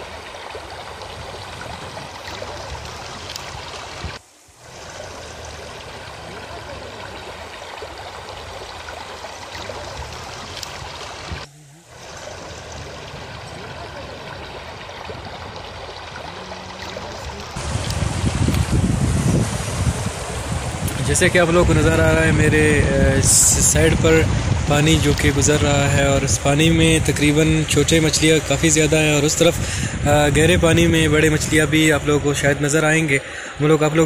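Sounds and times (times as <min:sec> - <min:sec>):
river rushing over gravel: 0:00.0 - 0:34.0.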